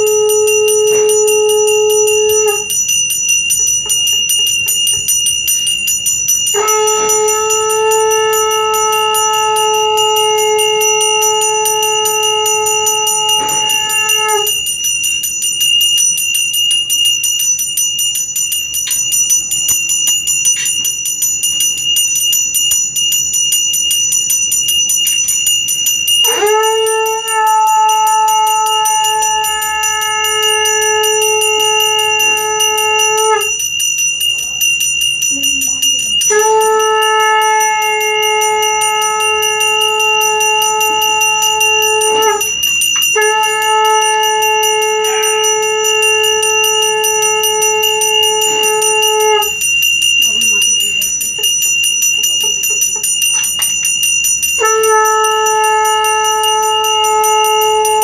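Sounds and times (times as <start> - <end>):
brass hand bell ringing rapidly: 0.0 - 58.0
conch shell blown: 0.0 - 58.0.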